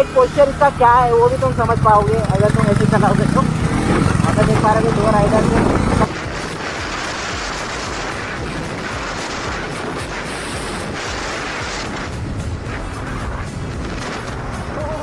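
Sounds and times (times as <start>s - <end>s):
wind rush over microphone: 0.0s - 15.0s.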